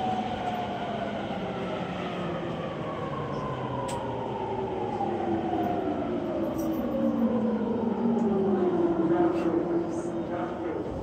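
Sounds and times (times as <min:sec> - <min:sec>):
electric train motor whine: 0:00.0 - 0:11.0
train running and rail noise: 0:00.0 - 0:11.0.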